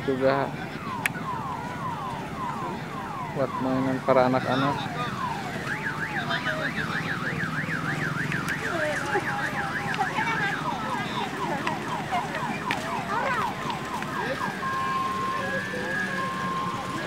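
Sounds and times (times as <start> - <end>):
electronic siren warbling: 0.2 - 17.0.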